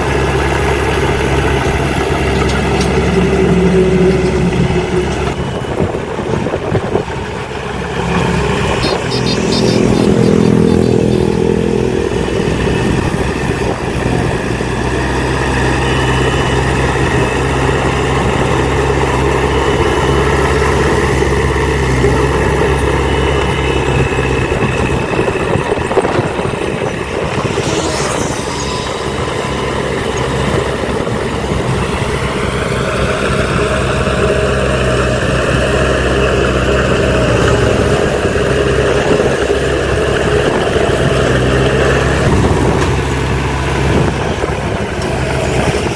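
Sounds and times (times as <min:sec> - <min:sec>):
heavy diesel machinery engine: 0:00.0 - 0:45.9.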